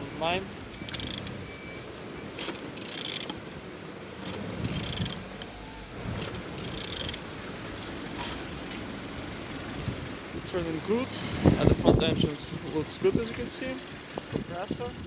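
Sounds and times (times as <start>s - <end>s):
engine turned over by hand: 0.6s - 1.6s, 2.3s - 3.4s, 4.2s - 15.0s.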